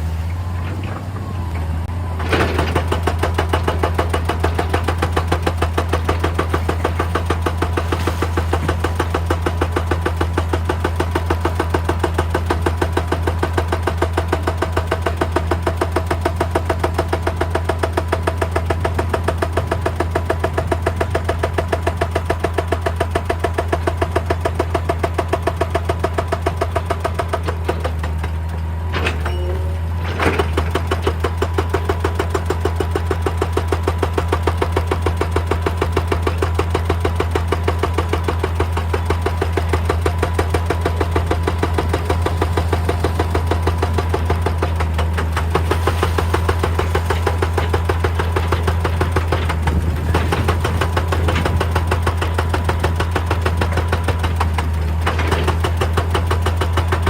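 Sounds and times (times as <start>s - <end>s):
diesel engine running: 0.0s - 57.0s
hydraulic breaker hammering: 2.2s - 57.0s.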